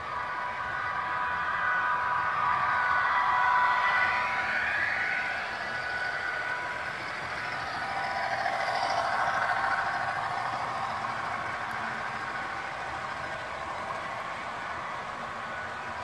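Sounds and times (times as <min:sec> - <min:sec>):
model locomotive diesel engine: 0:00.0 - 0:16.0
wheels rumbling on track: 0:00.0 - 0:16.0.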